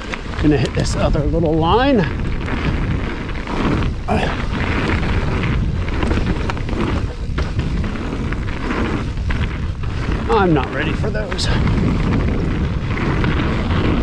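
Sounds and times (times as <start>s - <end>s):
bike tyre and trail noise: 0.0s - 14.0s
wind on microphone: 0.0s - 14.0s.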